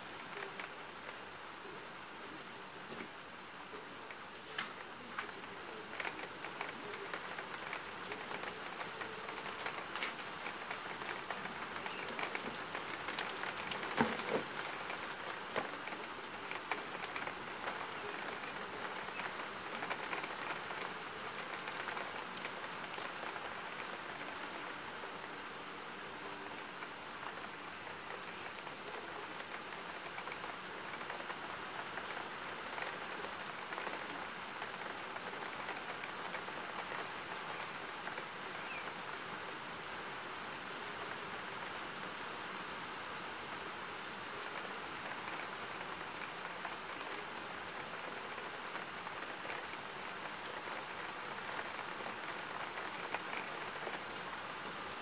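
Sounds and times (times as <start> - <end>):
raindrops ticking: 0.0 - 1.4, 4.8 - 40.0, 43.4 - 55.0
steady rain: 0.0 - 55.0.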